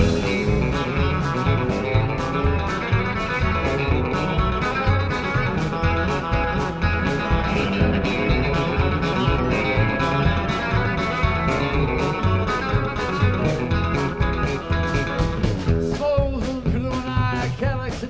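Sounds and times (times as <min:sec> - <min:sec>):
drums keeping a steady beat: 0:00.0 - 0:18.0
electric guitars: 0:00.0 - 0:18.0
upright bass: 0:00.0 - 0:18.0.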